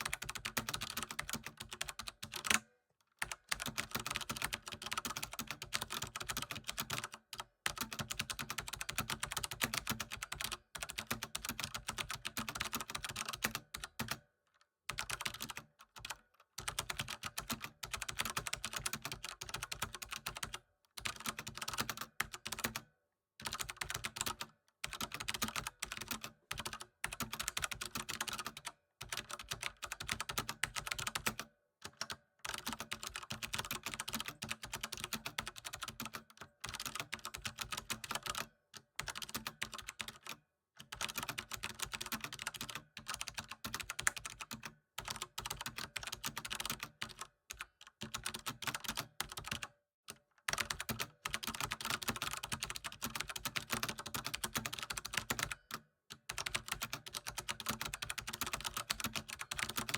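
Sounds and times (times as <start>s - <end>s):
computer keyboard typing: 0.0s - 14.2s, 14.9s - 59.9s.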